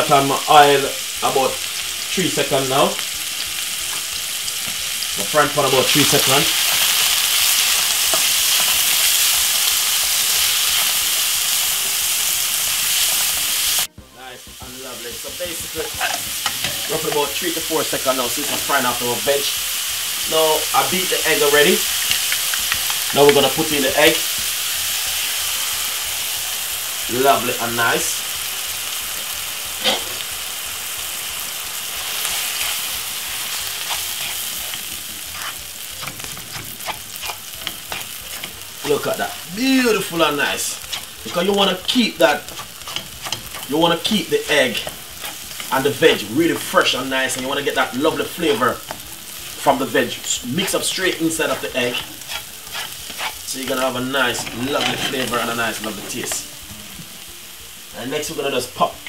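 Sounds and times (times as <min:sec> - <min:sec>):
vegetables sizzling in hot oil: 0:00.0 - 0:59.0
spatula stirring in frying pan: 0:03.1 - 0:57.2.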